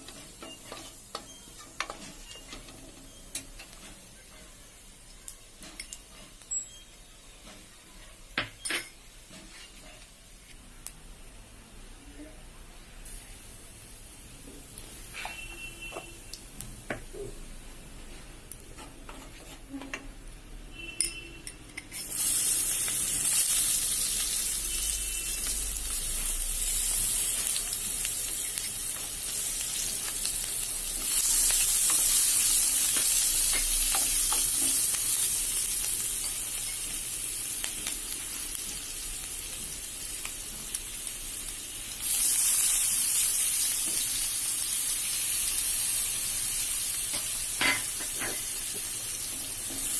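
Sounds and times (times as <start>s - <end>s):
food sizzling in frying pan: 0.0s - 10.4s, 13.0s - 19.6s, 21.8s - 49.9s.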